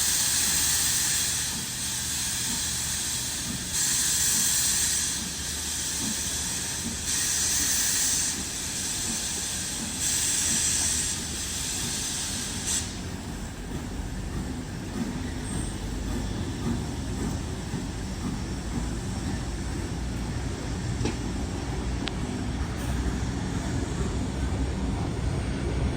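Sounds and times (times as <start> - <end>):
steam locomotive hissing steam: 0.0 - 25.9.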